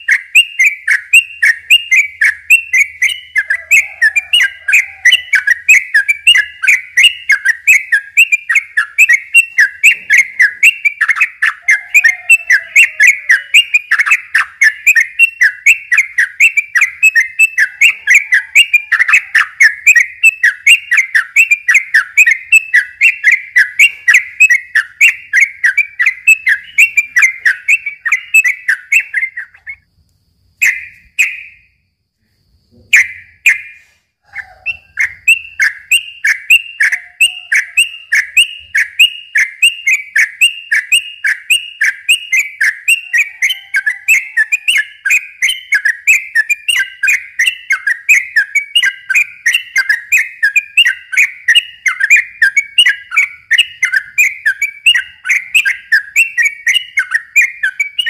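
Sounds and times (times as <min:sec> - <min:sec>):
bulbul singing whistled notes: 0:00.0 - 0:29.9, 0:30.6 - 0:31.8, 0:32.6 - 0:58.0.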